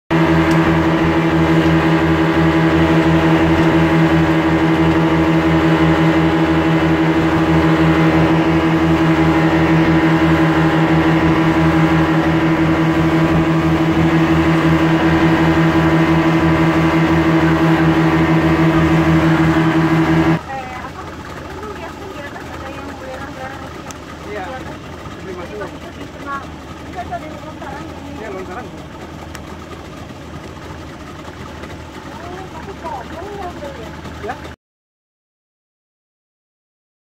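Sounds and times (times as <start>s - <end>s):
motorboat engine droning: 0.1s - 34.6s.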